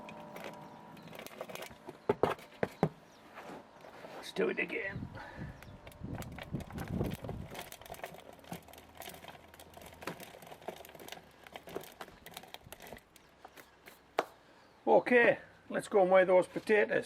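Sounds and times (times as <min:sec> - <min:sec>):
soil rustling and crumbling: 0:00.0 - 0:14.1.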